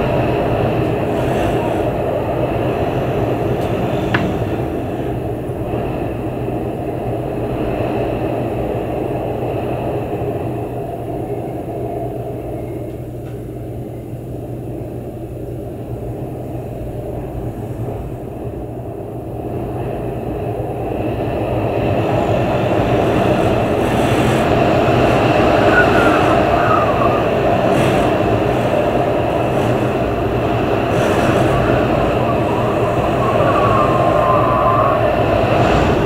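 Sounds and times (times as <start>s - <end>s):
storm wind rushing: 0.0s - 36.0s.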